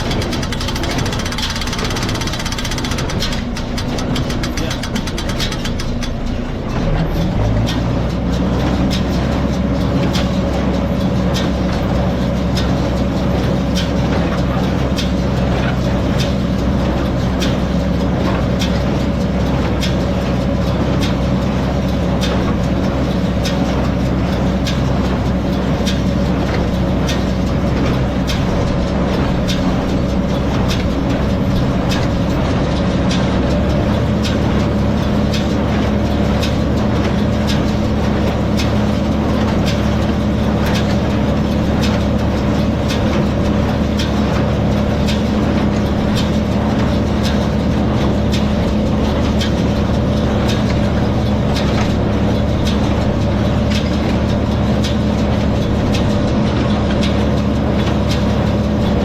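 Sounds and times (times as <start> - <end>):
hay baler mechanical knocks: 0.0 - 59.0
tractor engine running: 0.0 - 59.0.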